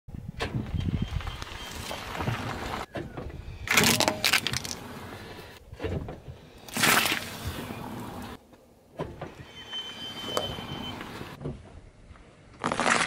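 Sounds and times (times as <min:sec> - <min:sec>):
low tyre rumble: 0:00.1 - 0:12.6.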